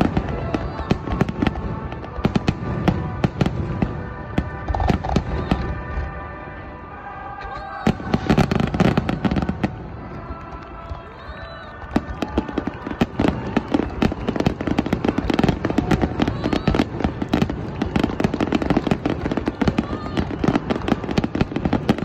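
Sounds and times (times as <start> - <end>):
heavy fireworks bangs: 0.0 - 6.2, 7.8 - 10.4, 11.8 - 22.0
fireworks crackling: 0.0 - 22.0.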